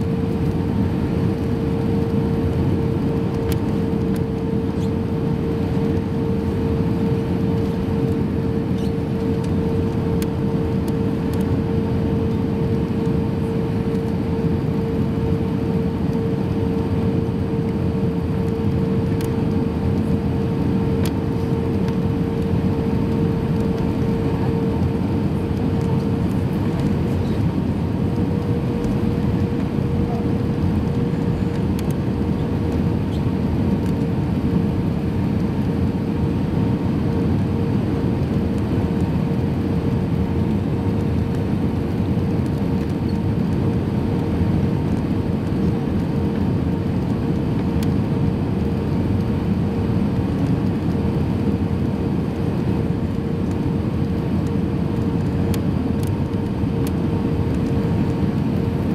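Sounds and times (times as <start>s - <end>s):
aircraft engines and airflow rumble: 0.0s - 58.9s
steady humming tone: 0.0s - 58.9s.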